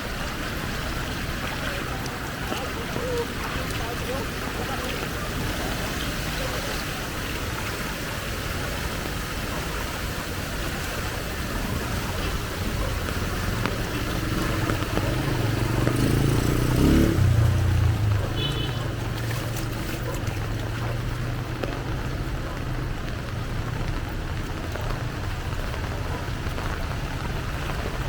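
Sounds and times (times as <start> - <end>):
heavy rain falling: 0.0 - 28.0
vehicle passing through floodwater: 0.0 - 28.0.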